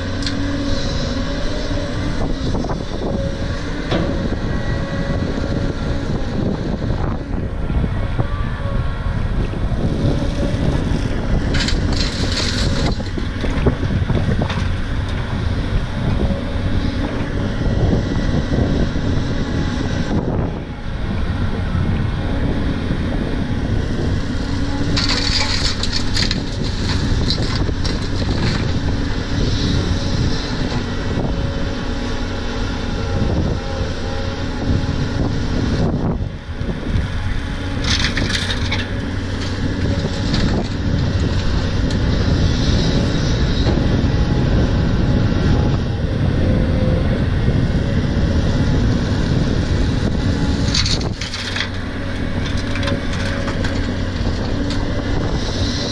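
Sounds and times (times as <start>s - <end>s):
excavator engine working under load: 0.0s - 55.9s.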